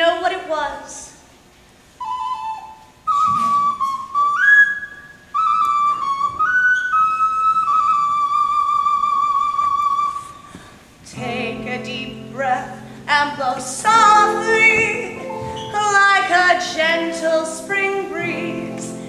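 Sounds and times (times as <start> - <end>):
ocarina melody: 2.0 - 10.5, 11.1 - 19.0.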